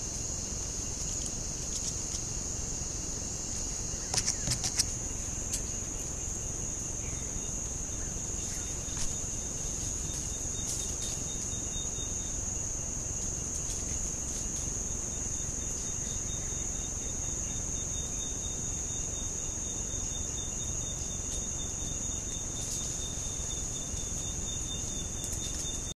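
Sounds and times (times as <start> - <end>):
faint thin insect tone: 0.0 - 26.0
insect chorus drone: 0.0 - 26.0.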